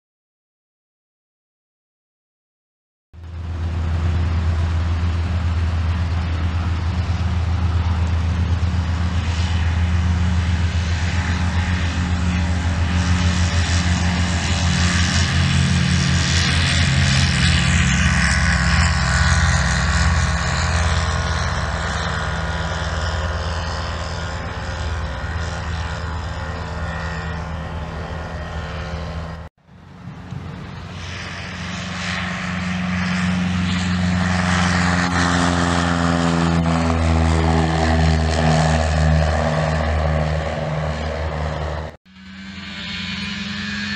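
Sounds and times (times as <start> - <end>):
light aircraft engine taking off: 3.2 - 43.9
ultralight plane engine flying past: 3.2 - 43.9.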